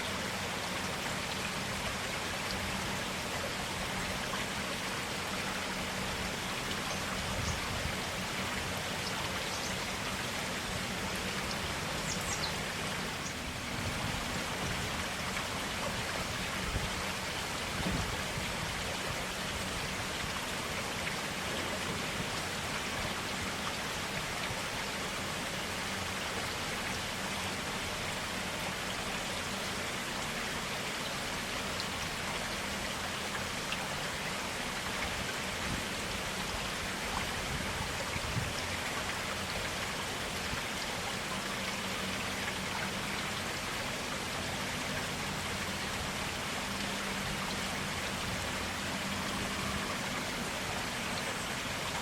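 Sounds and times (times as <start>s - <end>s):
stream rushing: 0.0s - 52.0s
water splashes and drips: 0.0s - 52.0s.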